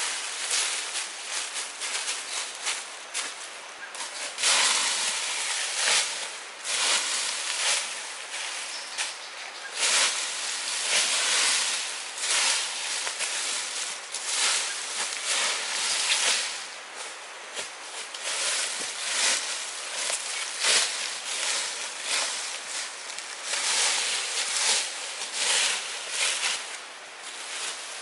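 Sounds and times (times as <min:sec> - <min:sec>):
dry leaves and brush rustling: 0:00.0 - 0:28.0.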